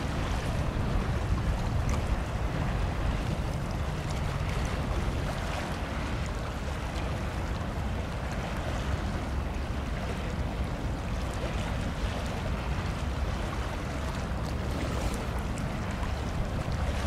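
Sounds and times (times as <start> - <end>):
choppy sea water: 0.0 - 17.0
wind rumble on microphone: 0.0 - 17.0.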